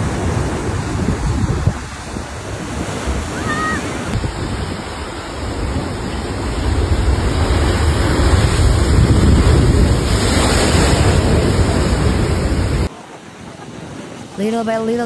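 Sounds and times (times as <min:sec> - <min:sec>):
wind blowing on microphone: 0:00.0 - 0:12.9
heavy surf breaking: 0:00.0 - 0:15.0.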